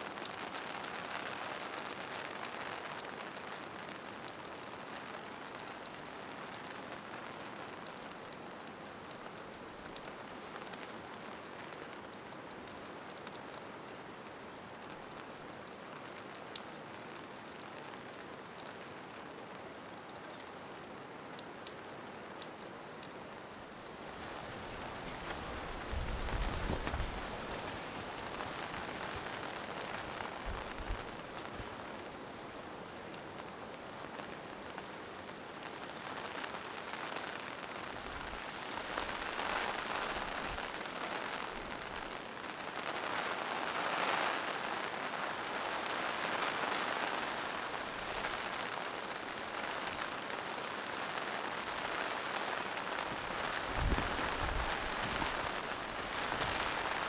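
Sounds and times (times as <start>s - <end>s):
rain on leaves and rocks: 0.0s - 57.0s.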